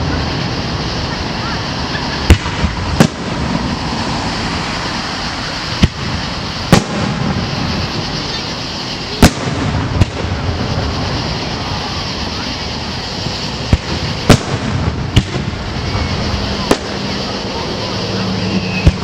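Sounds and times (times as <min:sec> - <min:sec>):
steady background din: 0:00.0 - 0:19.0
firework shells bursting: 0:01.7 - 0:19.0.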